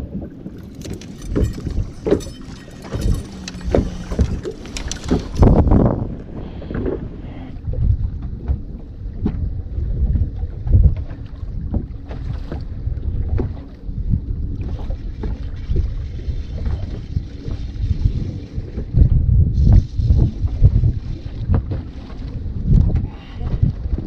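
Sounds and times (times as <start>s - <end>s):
wind buffeting the microphone: 0.0s - 24.0s
low thumps and small knocks: 0.2s - 15.5s, 18.8s - 21.9s, 22.6s - 24.0s.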